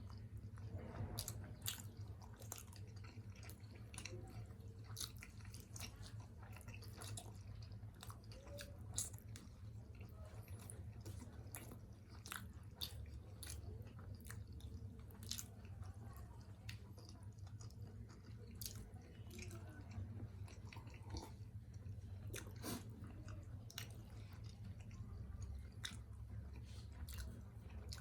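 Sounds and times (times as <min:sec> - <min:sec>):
chewing dumplings: 0:00.0 - 0:28.0.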